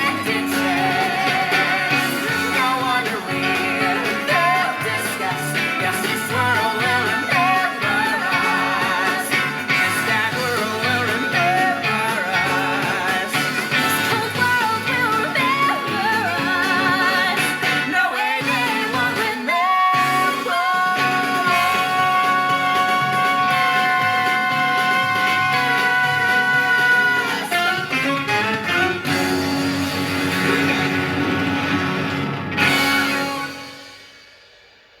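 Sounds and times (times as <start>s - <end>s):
voices singing with vibrato: 0.0s - 34.0s
band accompaniment: 0.0s - 34.9s.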